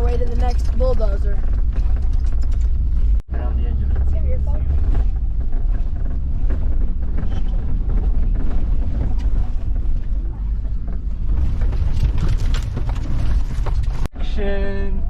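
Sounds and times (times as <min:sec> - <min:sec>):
knocks and rattles: 0:00.0 - 0:14.1
vehicle rumbling on dirt track: 0:00.0 - 0:14.4.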